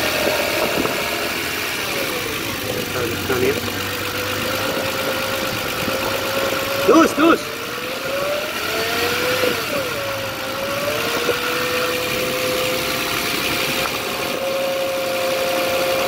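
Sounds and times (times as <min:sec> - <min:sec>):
alternator whine: 0:00.0 - 0:15.3
car engine revving: 0:00.0 - 0:16.0.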